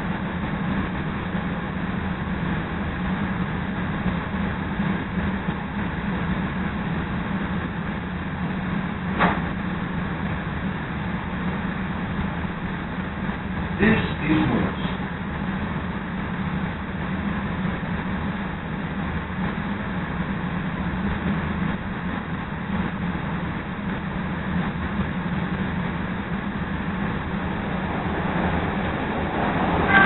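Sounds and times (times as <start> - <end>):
train car humming: 0.0 - 30.0.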